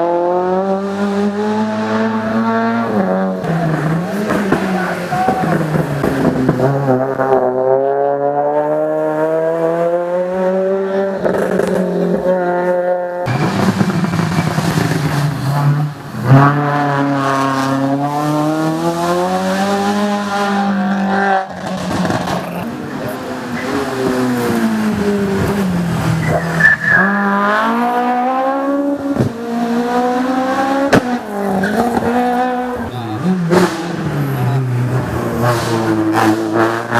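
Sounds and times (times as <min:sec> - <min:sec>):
race car engine accelerating: 0:00.0 - 0:36.9.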